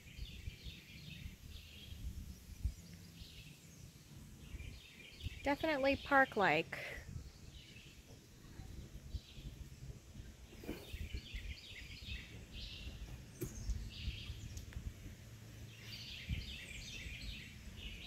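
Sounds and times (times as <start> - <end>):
birds singing: 0.0 - 18.0.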